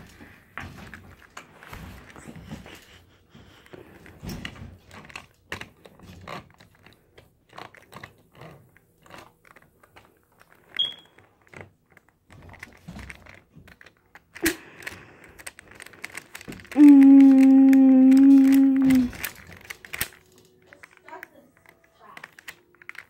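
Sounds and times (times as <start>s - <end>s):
plastic toy clicks and knocks: 4.2s - 23.0s.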